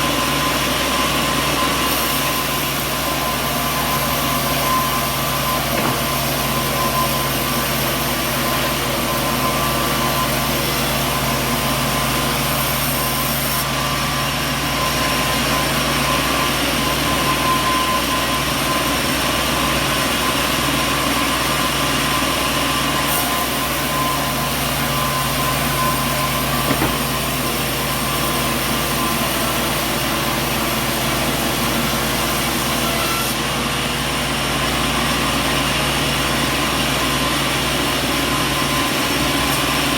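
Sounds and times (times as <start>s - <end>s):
high machine whine: 0.0s - 39.9s
sawmill machinery drone: 0.0s - 39.9s.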